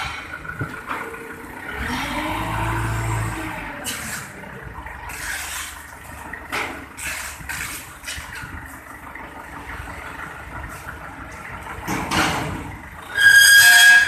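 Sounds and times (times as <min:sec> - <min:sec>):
forklift engine revving: 0:00.0 - 0:14.0.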